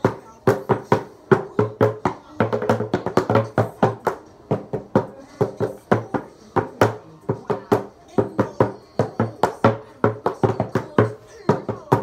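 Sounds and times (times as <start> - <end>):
bucket drumming: 0.0 - 12.0.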